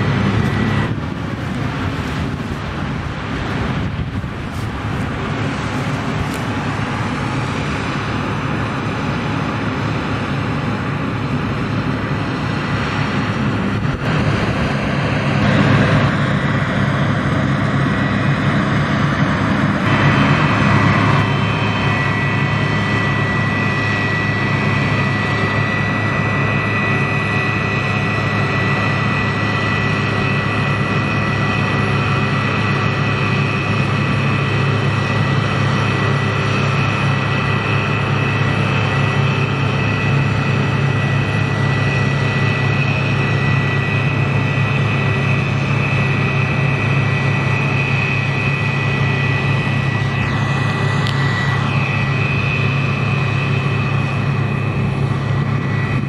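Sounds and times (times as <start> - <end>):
combine harvester engine drone: 0.0 - 56.0
high whine: 0.0 - 56.0.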